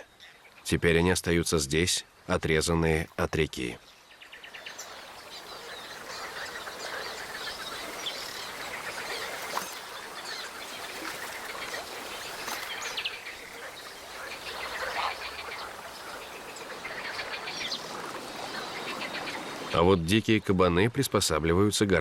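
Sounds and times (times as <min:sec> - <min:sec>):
birds chirping and calling: 0:02.0 - 0:20.2.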